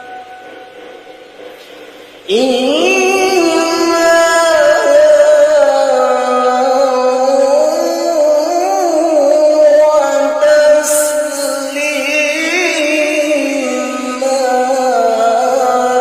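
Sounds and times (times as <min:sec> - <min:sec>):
man reciting melodically: 0:02.3 - 0:16.0.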